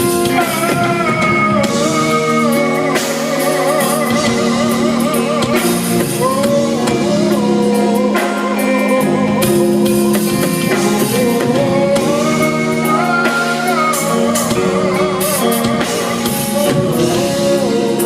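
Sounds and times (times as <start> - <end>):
live band playing: 0.0 - 18.0
melody line with vibrato: 0.0 - 18.0.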